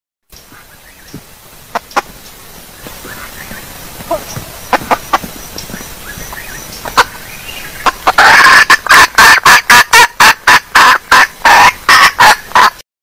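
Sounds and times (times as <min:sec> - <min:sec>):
hen clucking: 0:01.7 - 0:02.2, 0:02.8 - 0:12.8.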